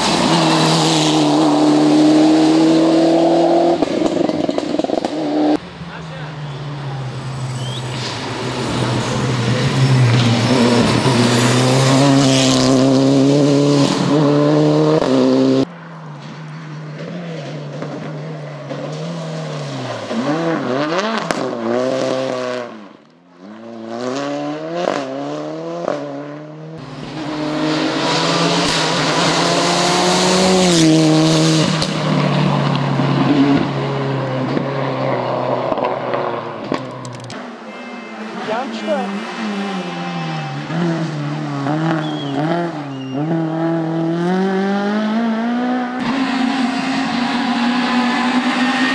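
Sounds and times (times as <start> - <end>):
rally car engines at full throttle: 0.0 - 48.9.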